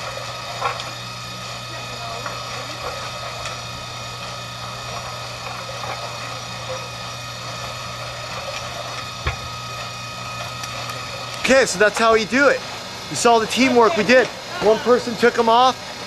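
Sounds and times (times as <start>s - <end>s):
ladder conveyor mechanical drone: 0.0s - 16.0s.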